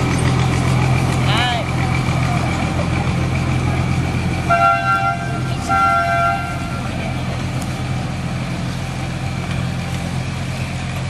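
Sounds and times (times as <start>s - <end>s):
train cars passing: 0.0s - 11.0s
train engine humming: 0.0s - 11.0s.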